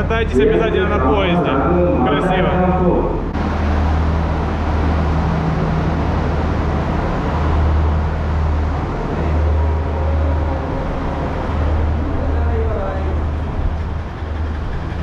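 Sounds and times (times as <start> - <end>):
deep hum: 0.0 - 15.0.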